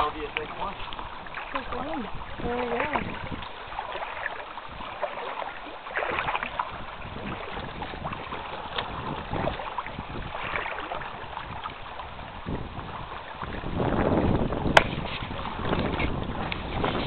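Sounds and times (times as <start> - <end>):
water splashing around canoe: 0.0 - 17.0.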